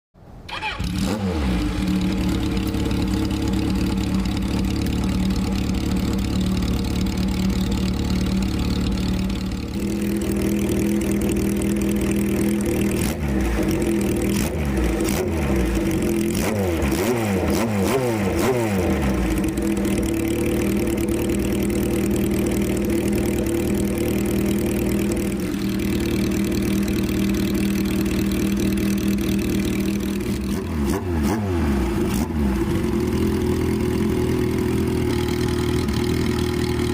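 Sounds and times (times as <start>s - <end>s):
motorcycle engine idling: 0.5s - 36.9s.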